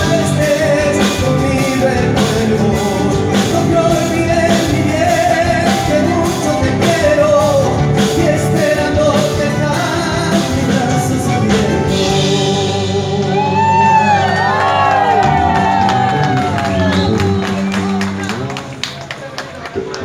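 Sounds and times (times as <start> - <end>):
man singing: 0.0 - 18.5
keyboard: 0.0 - 20.0.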